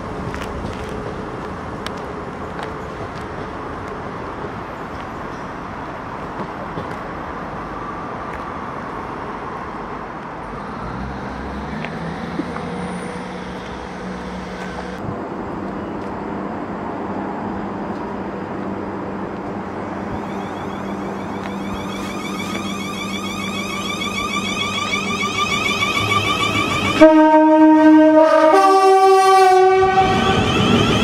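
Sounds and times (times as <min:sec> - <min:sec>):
diesel train engine drone: 0:00.0 - 0:31.0.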